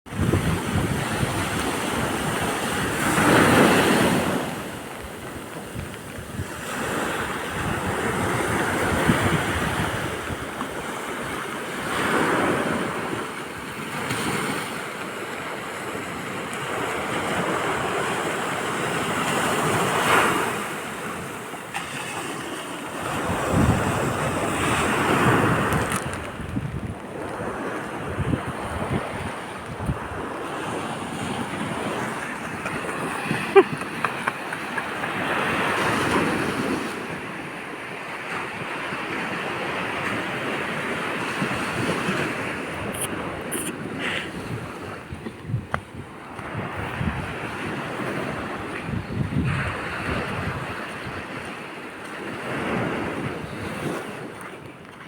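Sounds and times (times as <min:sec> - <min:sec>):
wind on microphone: 0:00.1 - 0:37.6, 0:38.2 - 0:54.9
sea waves breaking on beach: 0:00.1 - 0:55.0.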